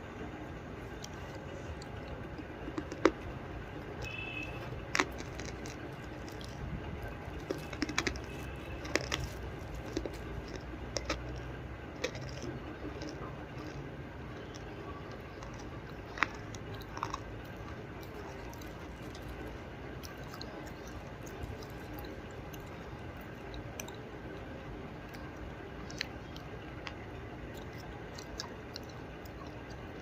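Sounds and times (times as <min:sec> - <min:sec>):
person chewing clay: 0:00.8 - 0:30.0.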